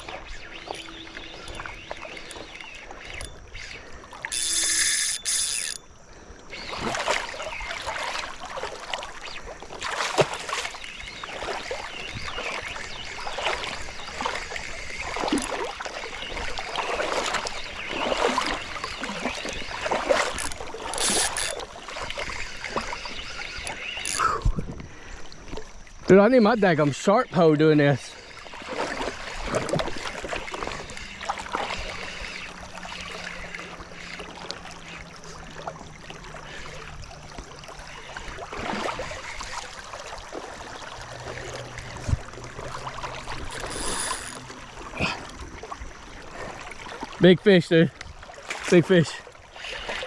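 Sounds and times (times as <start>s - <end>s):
water splashing and sloshing: 0.0s - 50.0s.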